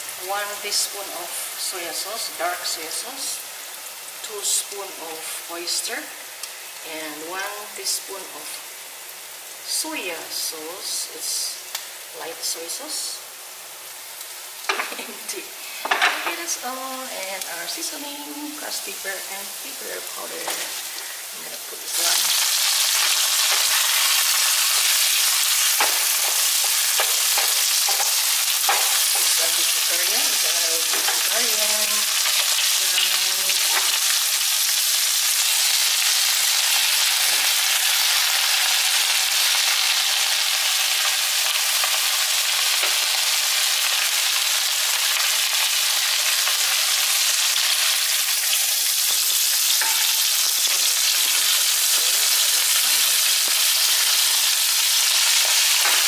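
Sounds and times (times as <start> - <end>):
cabbage sizzling in hot pan: 0.0 - 56.0.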